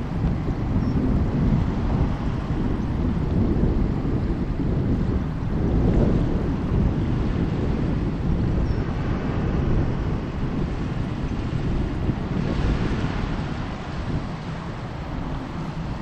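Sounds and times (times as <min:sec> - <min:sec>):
distant jet engines rumbling: 0:00.0 - 0:16.0
wind buffeting microphone: 0:00.0 - 0:16.0.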